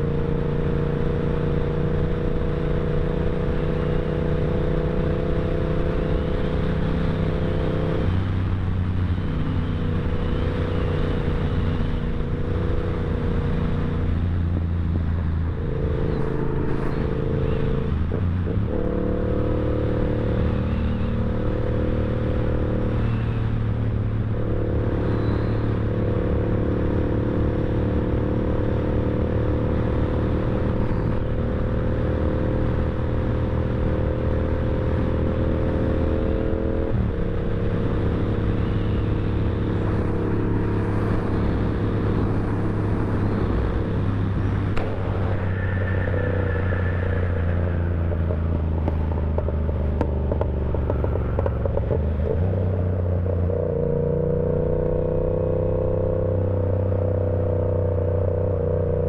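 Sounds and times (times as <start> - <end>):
motorcycle engine running: 0.0 - 56.8.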